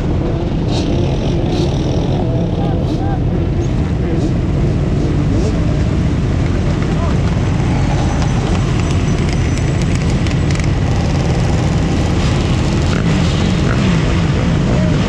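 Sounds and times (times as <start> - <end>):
dirt bike and quad engines running: 0.0 - 15.0.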